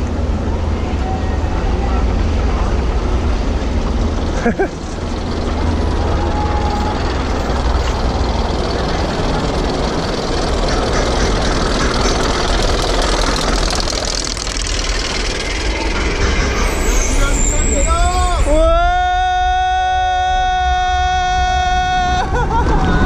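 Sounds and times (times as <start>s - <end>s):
lift chain mechanical rumble: 0.0s - 23.0s.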